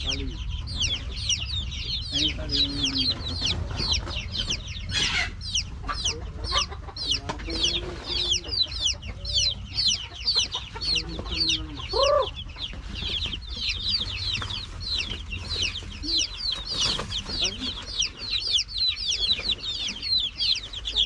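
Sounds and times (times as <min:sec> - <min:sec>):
chicks peeping: 0:00.0 - 0:21.0
lower chick calls: 0:00.0 - 0:21.0.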